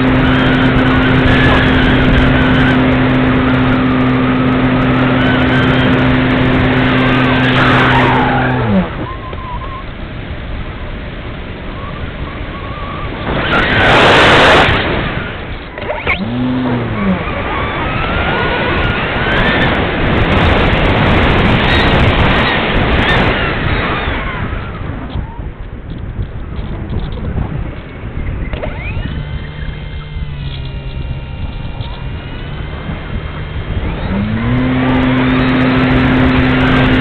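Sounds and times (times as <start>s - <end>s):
electric motor and propeller whirring: 0.0s - 37.0s
wind noise: 0.0s - 37.0s.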